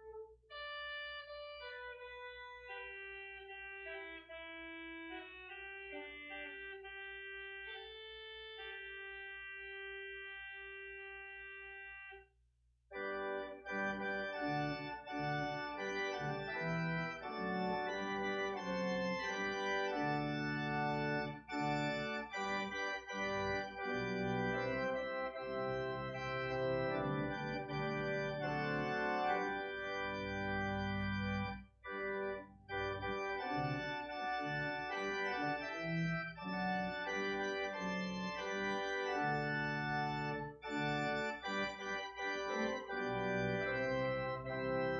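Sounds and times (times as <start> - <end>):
organ chords: 0.0 - 12.2, 12.9 - 44.9.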